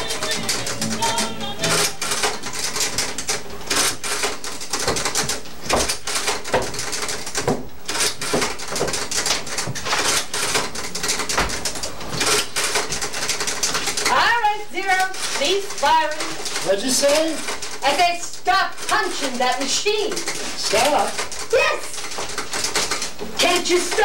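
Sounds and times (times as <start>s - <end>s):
adding machine keys clattering: 0.0s - 24.0s.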